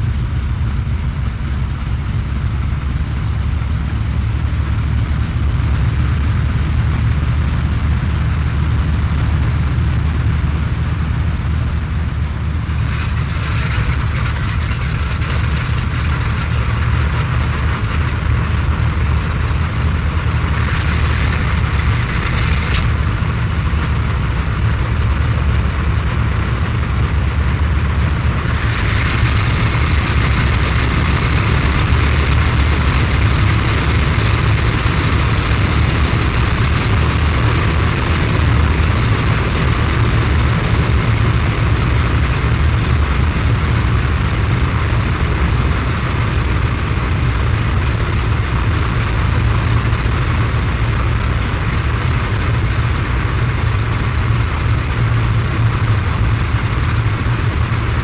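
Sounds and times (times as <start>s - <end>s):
aircraft engines droning: 0.0s - 58.0s.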